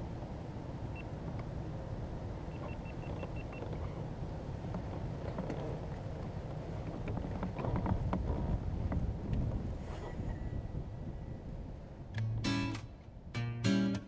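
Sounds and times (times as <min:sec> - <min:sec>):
low wind rumble on microphone: 0:00.0 - 0:13.4.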